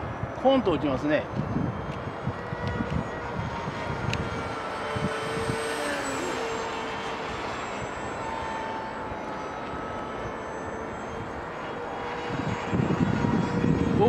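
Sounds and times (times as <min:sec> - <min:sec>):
wind rumbling on microphone: 0:00.0 - 0:08.8, 0:11.2 - 0:14.0
model plane motor whining: 0:00.0 - 0:14.0.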